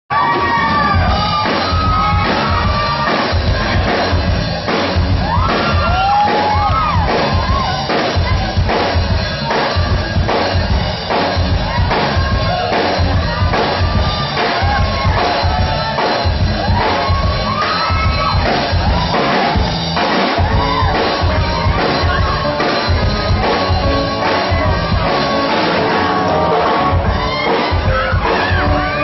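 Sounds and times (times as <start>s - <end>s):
audience whooping and shouting: 0.1s - 8.8s, 9.4s - 29.0s
drum kit beat: 0.1s - 29.0s
heavy bass line: 0.1s - 29.0s
live rock band playing: 0.1s - 29.0s.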